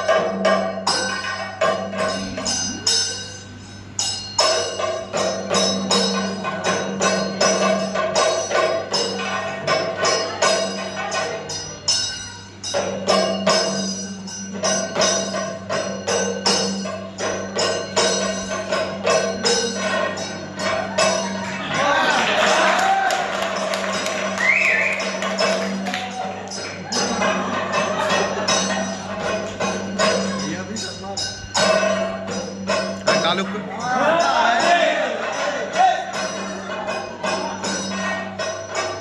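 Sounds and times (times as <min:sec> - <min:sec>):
metallic percussion music: 0:00.0 - 0:39.0.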